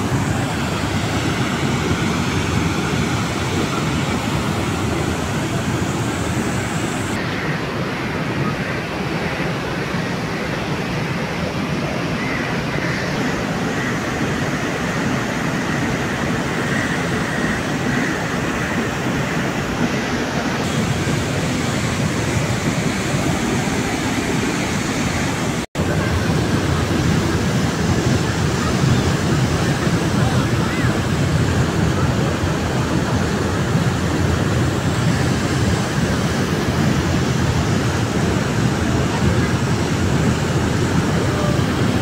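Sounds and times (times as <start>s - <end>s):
rushing floodwater: 0.0s - 42.0s.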